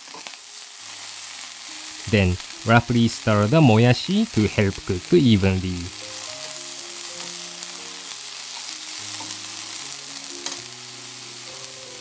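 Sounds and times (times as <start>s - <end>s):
bean sprouts sizzling in a pan: 0.0s - 12.0s.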